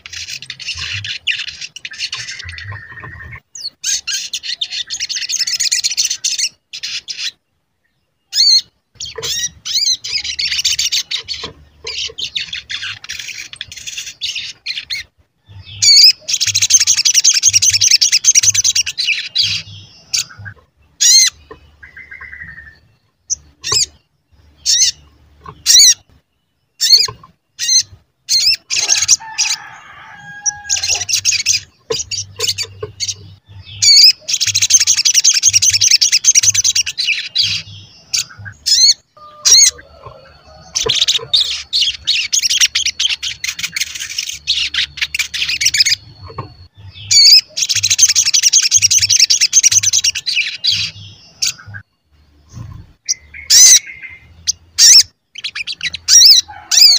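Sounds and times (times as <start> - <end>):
bird chirping: 0.0 - 56.9
fast high twittering birdsong: 0.0 - 56.9.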